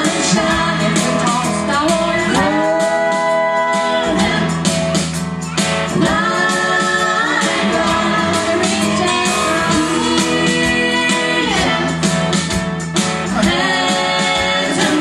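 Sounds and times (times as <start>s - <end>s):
vocal group singing gospel harmony: 0.0s - 4.6s, 5.9s - 12.3s, 13.0s - 15.0s
strummed guitar: 0.0s - 15.0s.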